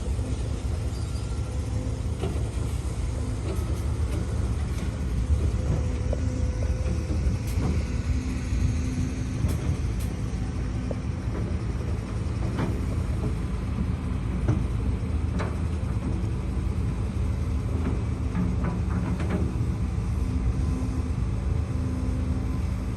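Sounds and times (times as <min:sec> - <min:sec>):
excavator diesel engine rumbling: 0:00.0 - 0:22.9.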